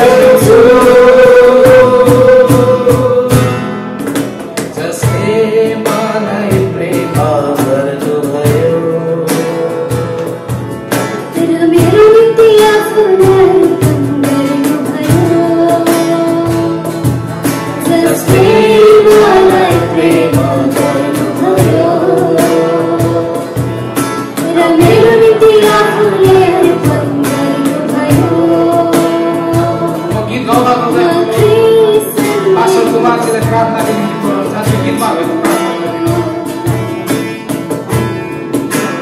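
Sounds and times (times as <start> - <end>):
woman singing into a microphone: 0.0 - 3.9, 5.0 - 37.2
strummed acoustic guitar: 0.0 - 39.0.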